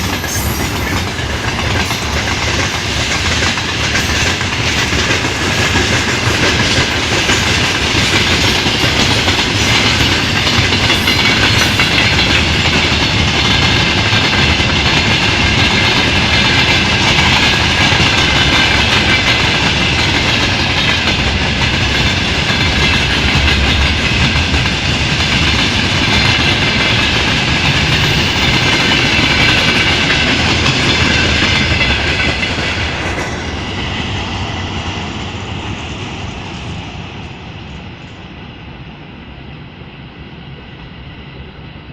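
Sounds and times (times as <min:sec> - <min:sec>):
freight train wheels clattering: 0:00.0 - 0:37.2.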